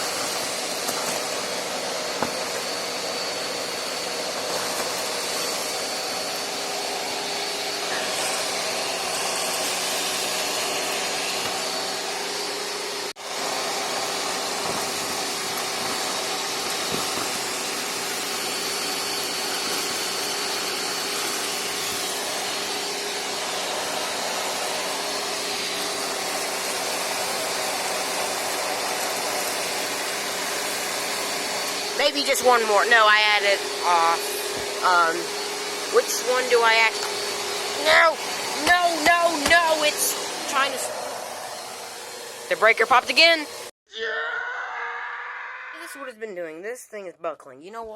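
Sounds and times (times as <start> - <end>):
vacuum cleaners running: 0.0 - 43.8.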